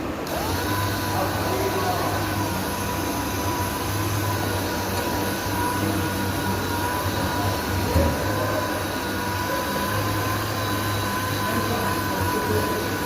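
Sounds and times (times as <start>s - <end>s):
power sander sanding metal panel: 0.5s - 13.0s.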